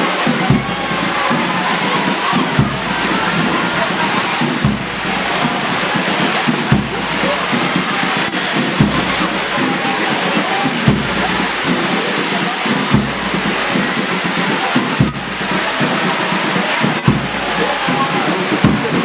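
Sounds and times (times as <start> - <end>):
deep drum beat: 0.0 - 19.0
heavy rain pouring: 0.0 - 19.0.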